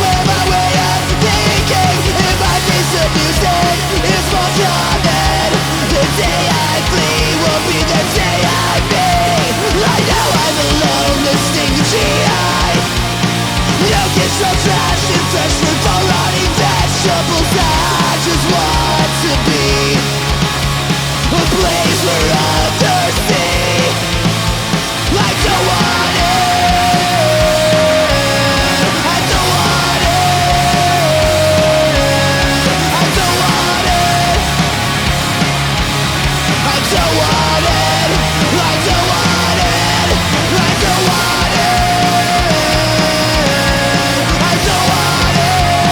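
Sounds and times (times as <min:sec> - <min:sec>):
punk rock band playing: 0:00.0 - 0:45.9.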